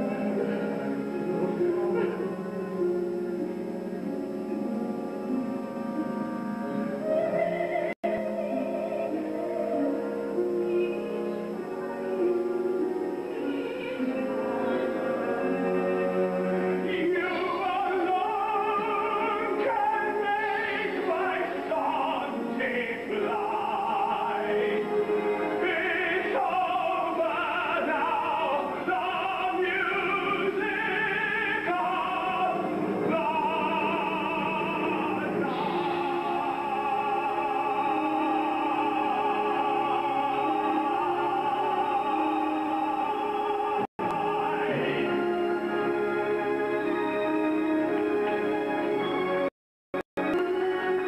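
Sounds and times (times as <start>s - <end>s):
operatic singing: 0.0s - 49.5s
orchestral accompaniment: 0.0s - 49.5s, 50.2s - 51.0s.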